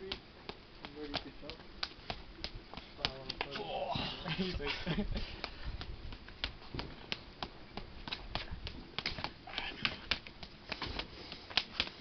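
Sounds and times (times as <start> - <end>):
forearms slapping together: 0.0 - 12.0.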